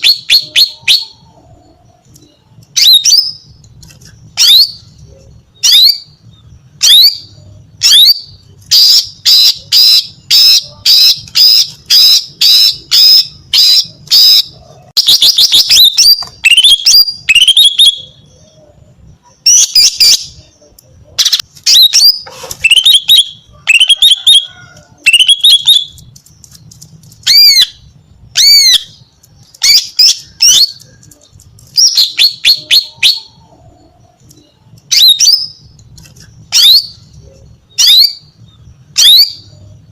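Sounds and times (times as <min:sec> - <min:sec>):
bird calling and trilling: 0:00.0 - 0:39.9.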